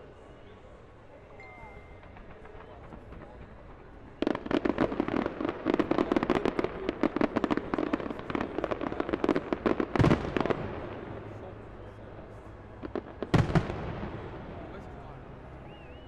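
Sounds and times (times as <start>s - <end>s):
fireworks bangs and crackles: 1.9s - 16.0s.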